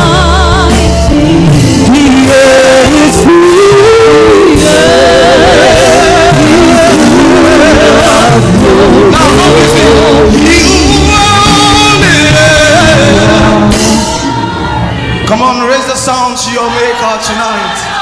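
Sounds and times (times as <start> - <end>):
singers holding vibrato notes: 0.0 - 15.3
band accompaniment: 0.0 - 18.0.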